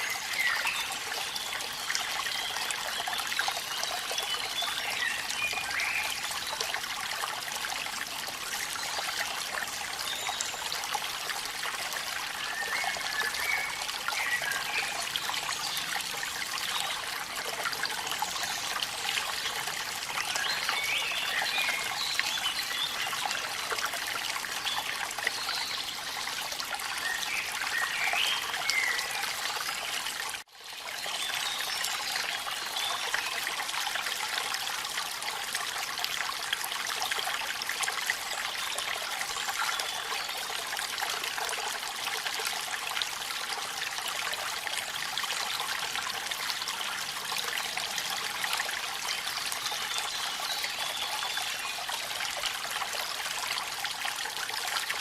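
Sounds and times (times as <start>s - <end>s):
waterfall and rain splashing: 0.0s - 55.0s.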